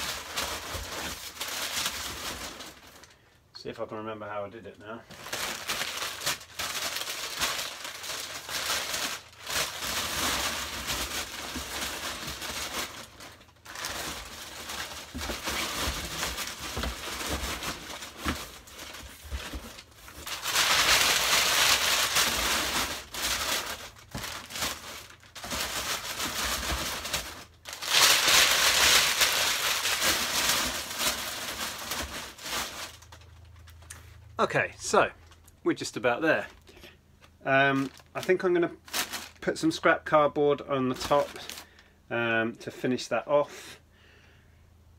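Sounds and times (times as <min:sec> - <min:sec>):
packing material crinkling: 0:00.0 - 0:03.2, 0:05.0 - 0:34.1, 0:37.4 - 0:40.2, 0:40.8 - 0:41.9.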